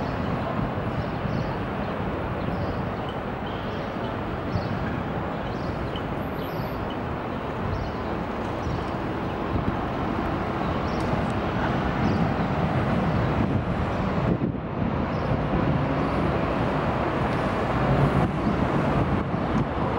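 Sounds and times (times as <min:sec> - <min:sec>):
passing cars traffic noise: 0:00.0 - 0:19.9.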